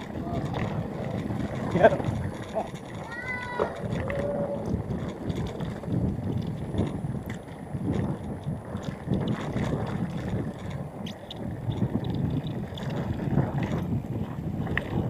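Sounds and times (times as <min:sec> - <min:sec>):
bike rattles and clicks: 0:00.0 - 0:15.0
tyres rumbling on gravel: 0:00.0 - 0:15.0
wind on microphone: 0:00.0 - 0:15.0.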